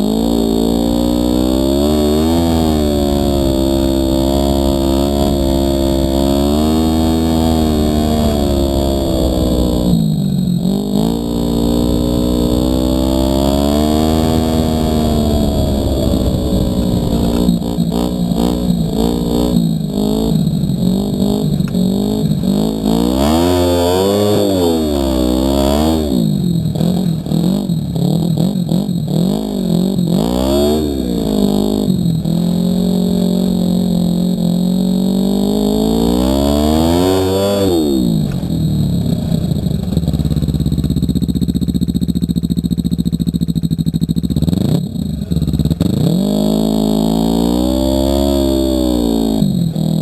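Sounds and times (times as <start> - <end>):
snowmobile engine revving: 0.0 - 40.5, 44.4 - 50.0.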